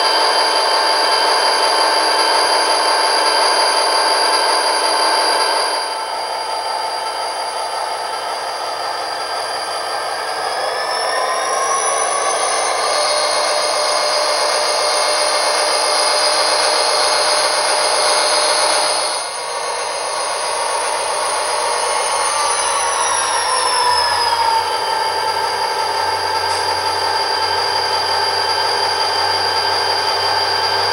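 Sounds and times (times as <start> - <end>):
diesel engine sound from small speaker: 0.0 - 30.9
rising whine: 0.0 - 30.9.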